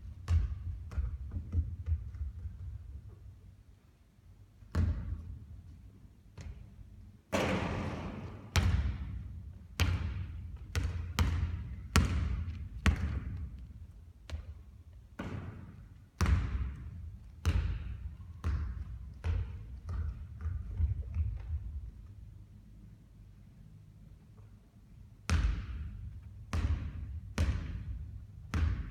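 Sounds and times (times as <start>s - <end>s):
basketball bouncing on gym floor: 0.0s - 3.1s, 4.6s - 5.7s, 6.3s - 22.1s, 25.2s - 28.9s.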